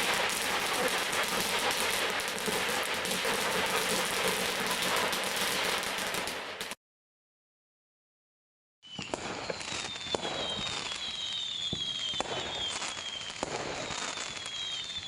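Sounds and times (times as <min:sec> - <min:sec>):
fireworks crackling: 0:00.0 - 0:06.8, 0:08.9 - 0:15.0.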